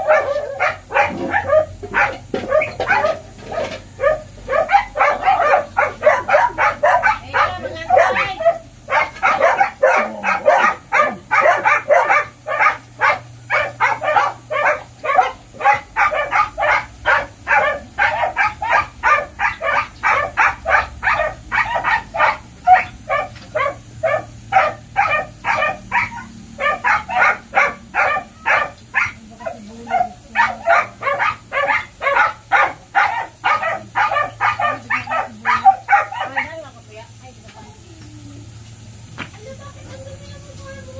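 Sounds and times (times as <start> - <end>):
dogs barking: 0.0 - 37.0.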